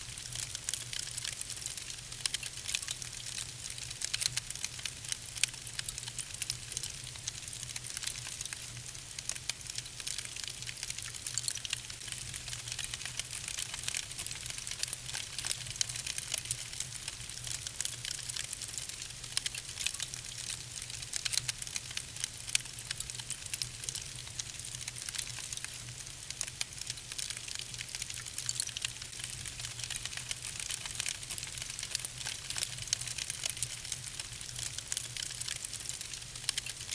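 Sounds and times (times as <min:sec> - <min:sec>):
soft steady hiss: 0:00.0 - 0:36.9
wood fire crackling and popping: 0:00.1 - 0:36.9.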